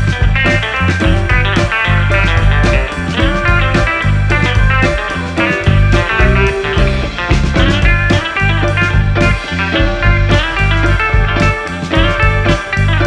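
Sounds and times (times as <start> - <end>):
blues-rock music with electric guitar: 0.0 - 13.0.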